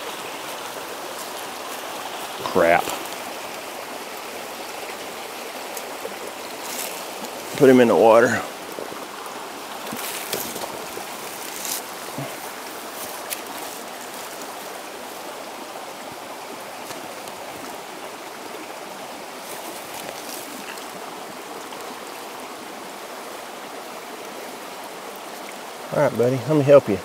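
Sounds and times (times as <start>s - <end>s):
creek running over rocks: 0.0s - 27.0s.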